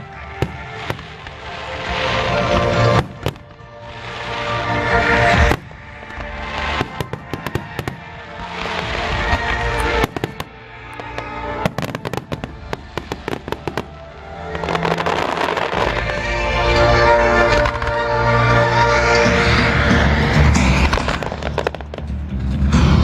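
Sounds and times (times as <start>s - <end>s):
fireworks bangs and crackles: 0.0s - 23.0s
music: 0.0s - 23.0s.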